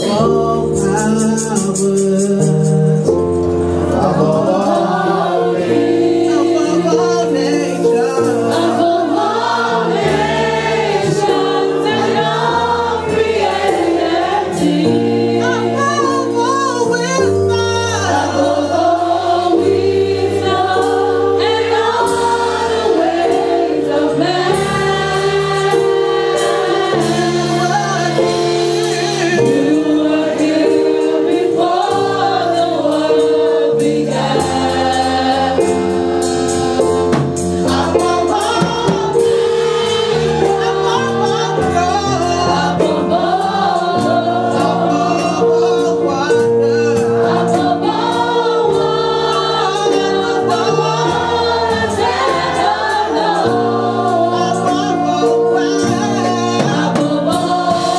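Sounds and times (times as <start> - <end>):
group singing worship song: 0.0 - 57.9
sustained accompaniment chords: 0.0 - 57.9.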